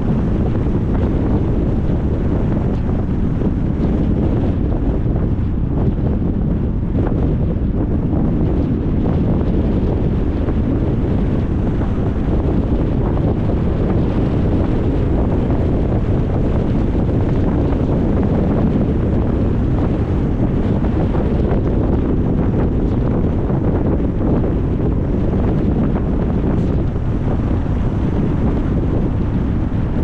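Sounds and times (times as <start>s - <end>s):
wind and road noise: 0.0s - 30.0s
wind buffeting microphone: 0.0s - 30.0s.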